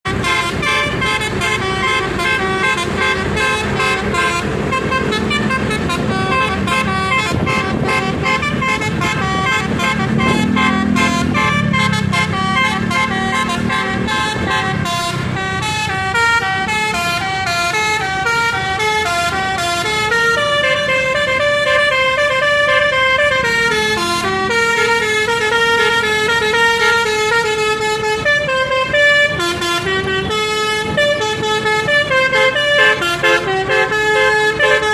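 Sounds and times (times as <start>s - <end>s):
musical horns playing a melody: 0.0s - 34.9s.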